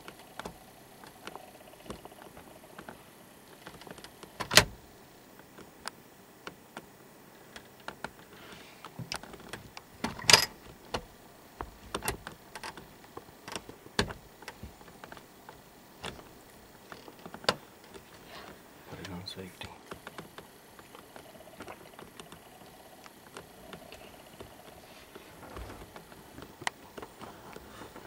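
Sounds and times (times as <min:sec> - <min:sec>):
quiet outdoor air: 0:00.0 - 0:28.0.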